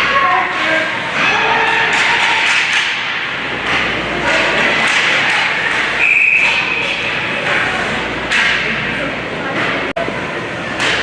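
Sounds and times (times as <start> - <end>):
knocks of sticks and puck: 0.0 - 8.8, 10.7 - 11.0
crowd noise: 0.0 - 11.0.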